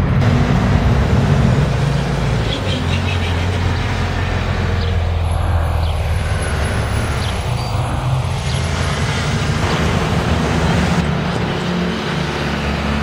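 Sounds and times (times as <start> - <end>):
bus engine running: 0.0 - 13.0
street traffic: 0.0 - 13.0.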